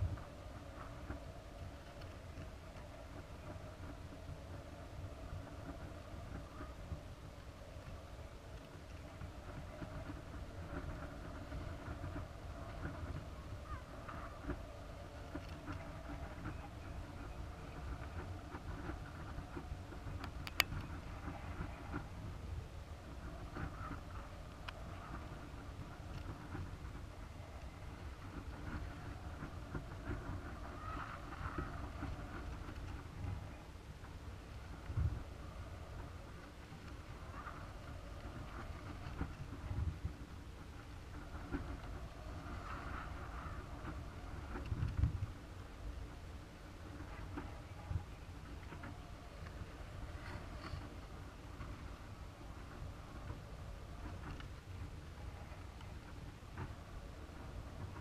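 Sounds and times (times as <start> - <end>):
faint creaks and ticks: 0.0 - 58.0
steady low rumble: 0.0 - 58.0.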